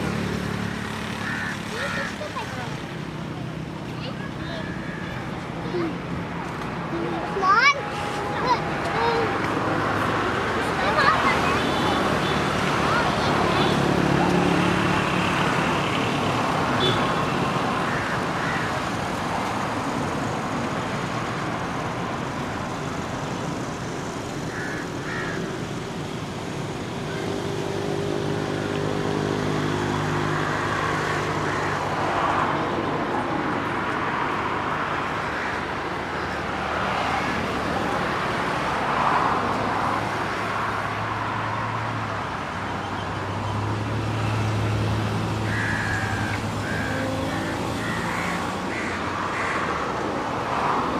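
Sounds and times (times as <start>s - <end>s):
motor vehicle noise: 0.0s - 50.9s.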